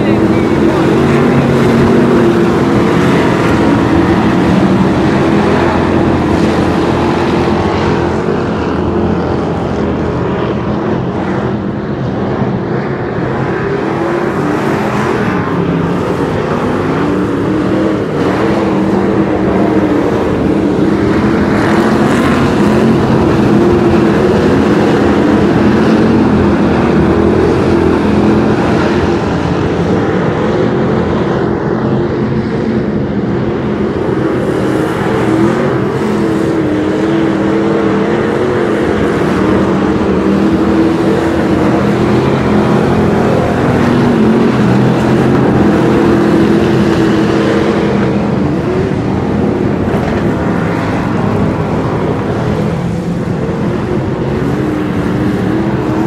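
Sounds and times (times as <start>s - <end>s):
race car engines: 0.0s - 56.0s.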